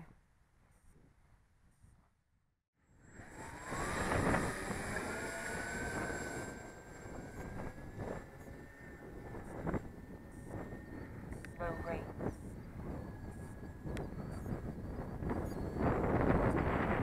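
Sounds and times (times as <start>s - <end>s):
electric model plane motors whirring: 2.9s - 17.0s.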